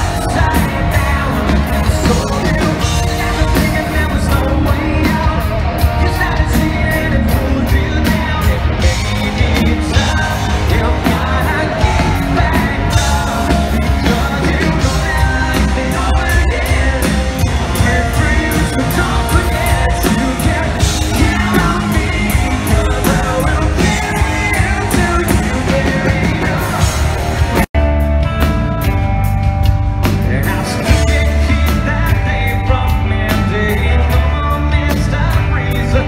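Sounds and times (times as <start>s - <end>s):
person singing: 0.0s - 27.7s, 30.2s - 36.0s
rock band playing live: 0.0s - 36.0s.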